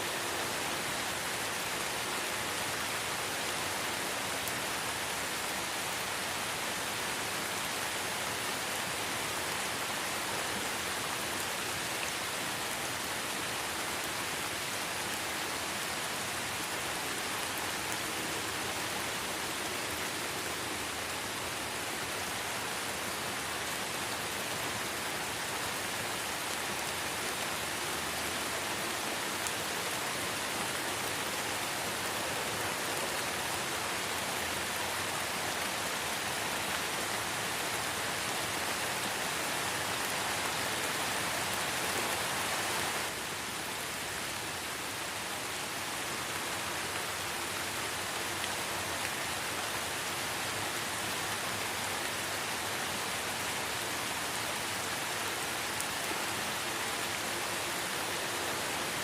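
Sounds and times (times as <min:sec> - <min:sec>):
light rain in a forest: 0:00.0 - 0:59.0.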